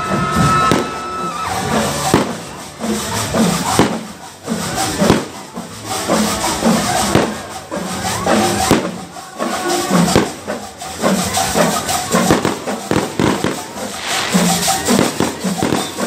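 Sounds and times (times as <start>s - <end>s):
fireworks cracking: 0.0s - 16.0s
shaker percussion: 0.0s - 16.0s.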